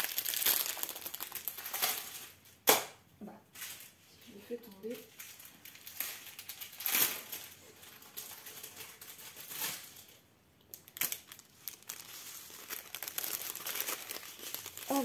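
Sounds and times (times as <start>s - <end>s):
plastic packaging crinkling: 0.0s - 2.5s, 4.6s - 15.0s.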